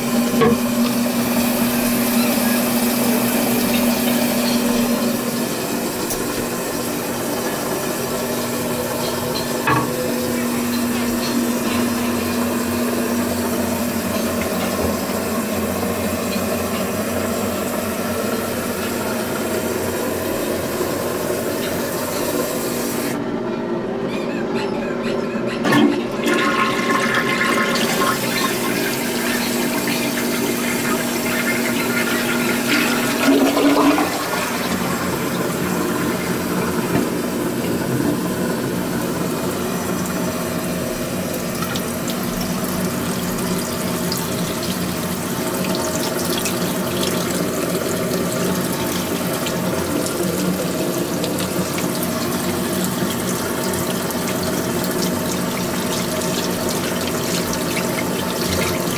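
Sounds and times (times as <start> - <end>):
sink faucet running: 0.0 - 23.2, 25.6 - 58.9
toilet flushing: 0.0 - 58.9.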